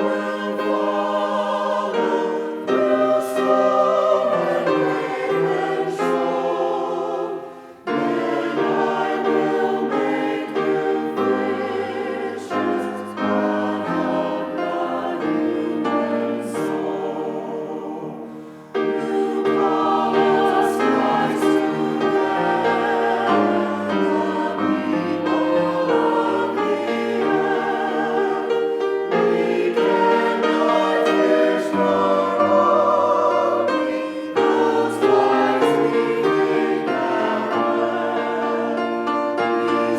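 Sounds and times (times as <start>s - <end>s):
choir singing with vibrato: 0.0s - 39.9s.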